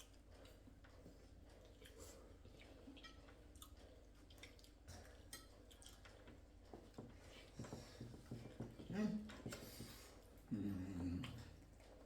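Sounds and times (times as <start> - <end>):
people chewing: 0.0 - 7.6, 9.3 - 12.0.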